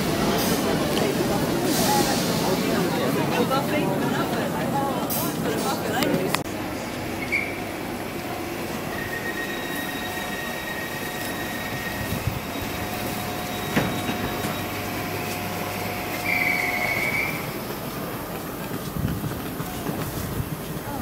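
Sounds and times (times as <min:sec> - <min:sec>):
train equipment humming: 0:00.0 - 0:21.0.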